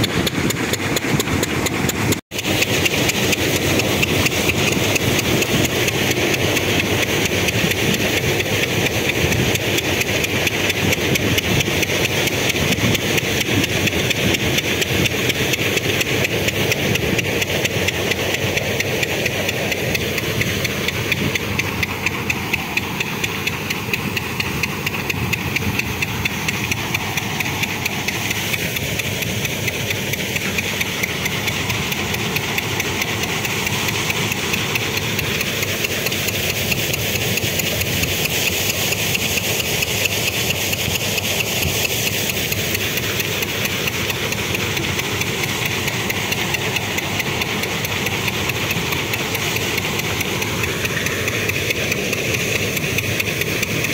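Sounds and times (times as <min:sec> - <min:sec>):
fast even clatter: 0:00.0 - 0:53.9
thresher machine din: 0:00.0 - 0:53.9.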